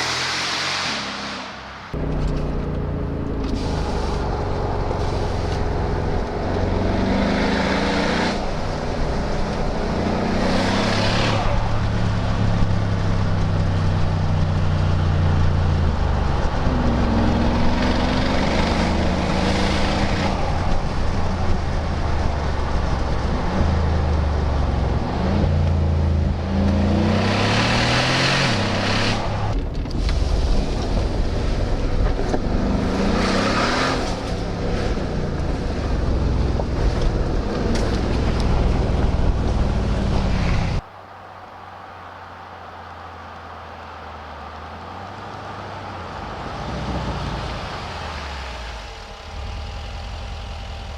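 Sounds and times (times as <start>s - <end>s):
car engine revving through exhaust: 0.0s - 40.8s, 42.2s - 50.9s.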